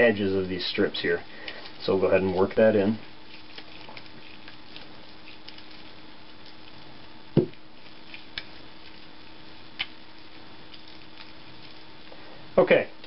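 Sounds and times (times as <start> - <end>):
wet paper squishing: 0.5 - 12.2.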